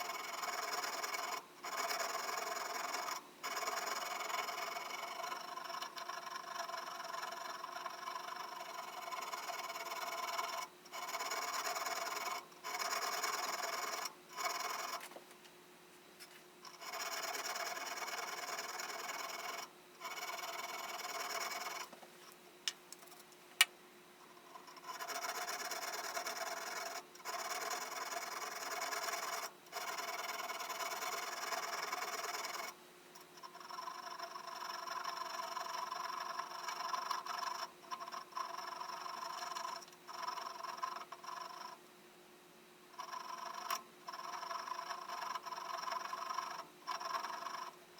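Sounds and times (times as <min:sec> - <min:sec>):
file rasping on steel bit: 0:00.0 - 0:15.1, 0:16.7 - 0:21.9, 0:24.3 - 0:32.8, 0:33.4 - 0:41.8, 0:43.0 - 0:47.8.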